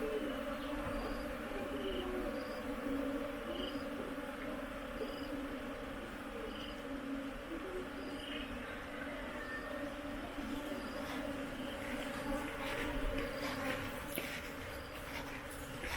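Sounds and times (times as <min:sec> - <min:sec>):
bees buzzing: 0:00.0 - 0:15.9.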